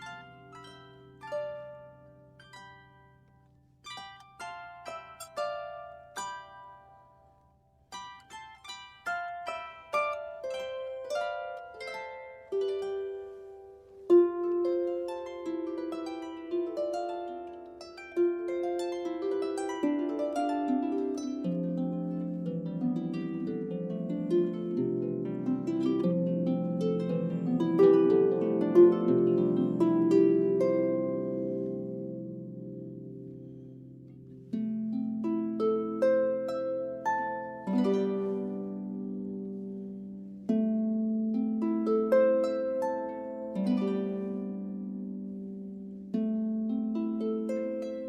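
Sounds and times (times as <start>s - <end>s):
harp playing: 0.0s - 48.0s.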